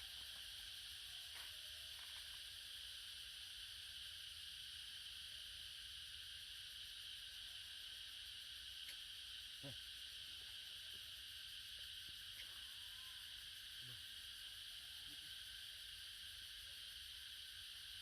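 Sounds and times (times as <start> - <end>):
faint high-pitched hiss: 0.0 - 18.0.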